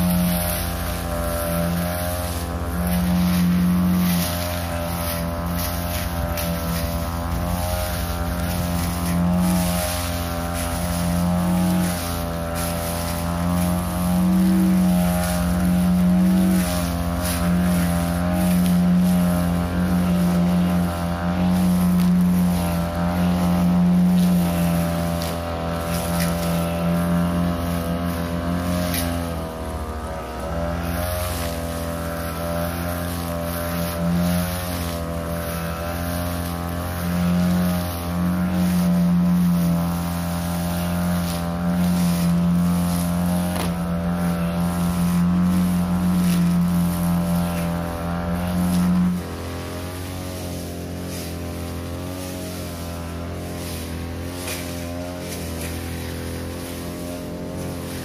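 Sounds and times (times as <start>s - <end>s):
brush cutter engine cutting grass: 0.0s - 58.0s.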